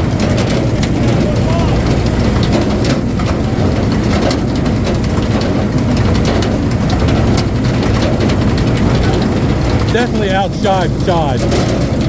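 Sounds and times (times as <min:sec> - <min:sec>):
log splitter engine running: 0:00.0 - 0:12.0.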